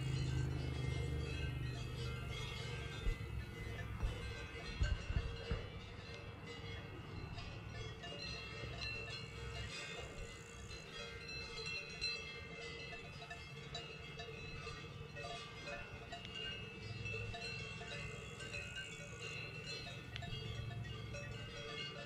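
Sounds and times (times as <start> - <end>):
cowbells clanking: 0.0 - 22.0.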